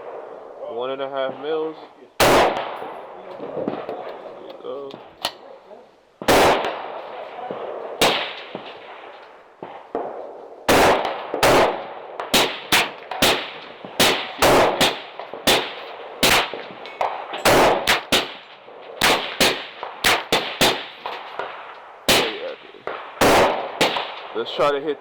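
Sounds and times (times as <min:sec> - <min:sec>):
rifle gunfire: 0:02.2 - 0:04.2, 0:06.2 - 0:24.8.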